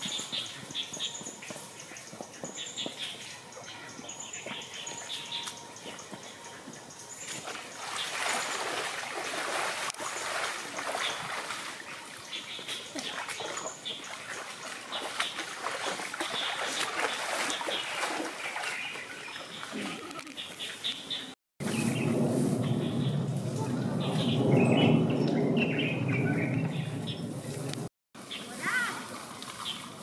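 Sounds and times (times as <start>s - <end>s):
water splashing and sloshing: 0.0s - 25.5s, 26.1s - 30.0s.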